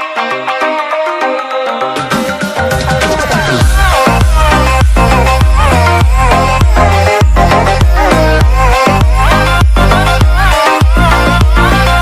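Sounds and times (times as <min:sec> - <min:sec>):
background music quick melody: 0:00.0 - 0:12.0.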